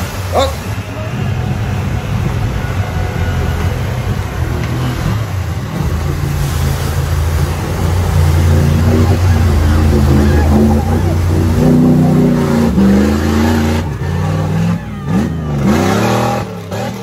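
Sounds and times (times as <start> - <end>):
mud and water splashing: 0.0 - 17.0
truck engine running hard: 0.0 - 17.0.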